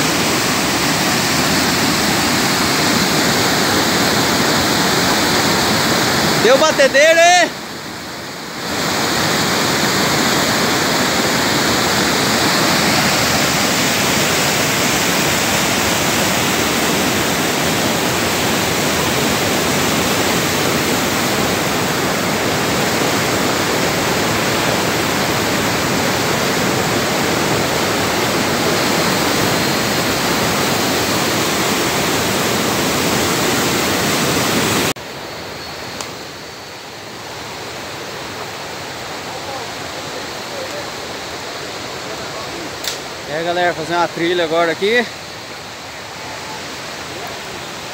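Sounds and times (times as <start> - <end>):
waterfall rushing over rock: 0.0 - 47.9.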